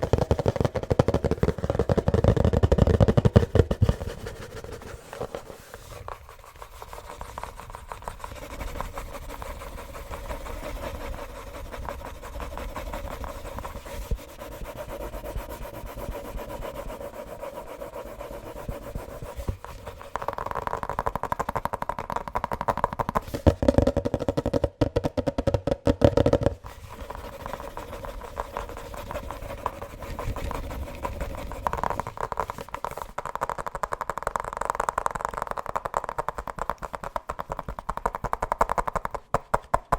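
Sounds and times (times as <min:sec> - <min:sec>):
fast tapping and scratching: 0:00.0 - 0:39.9.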